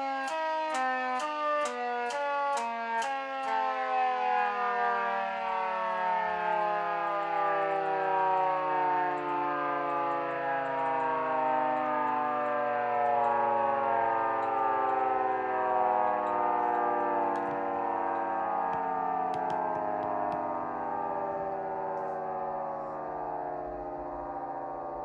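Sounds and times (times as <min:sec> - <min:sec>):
rotating siren winding down: 0:00.0 - 0:25.0.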